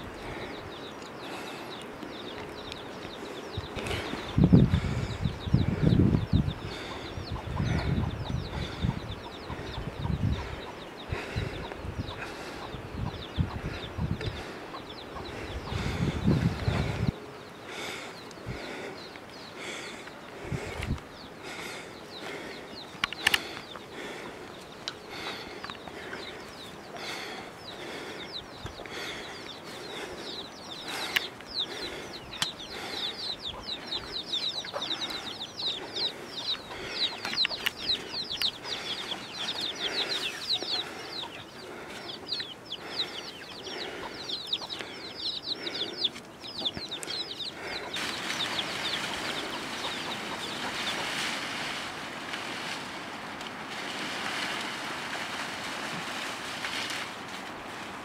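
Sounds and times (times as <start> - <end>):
chickens chirping: 0.0 - 58.0
chickens clucking: 0.0 - 58.0
steady rustling hiss: 0.0 - 58.0.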